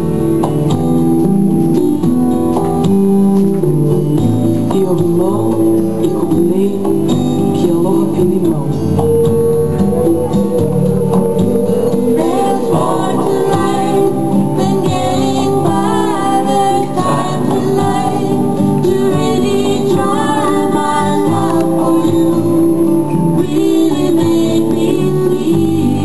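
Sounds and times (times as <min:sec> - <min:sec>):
guitar accompaniment: 0:00.0 - 0:26.0
person singing: 0:04.5 - 0:26.0.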